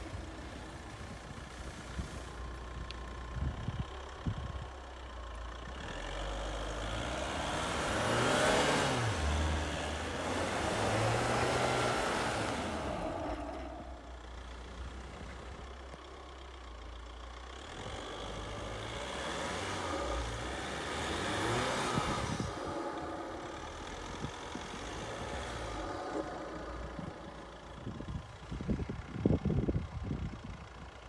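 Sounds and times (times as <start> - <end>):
truck engine pulling under load: 0.0 - 31.0.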